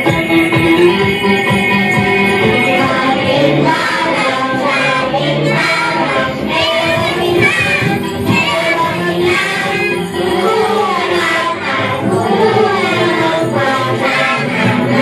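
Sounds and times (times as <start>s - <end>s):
instrumental backing music: 0.0s - 15.0s
children singing together: 1.9s - 15.0s.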